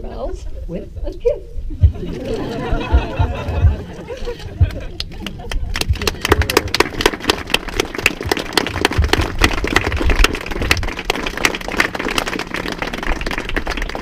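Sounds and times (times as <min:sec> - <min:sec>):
crowd applauding: 0:02.1 - 0:14.0.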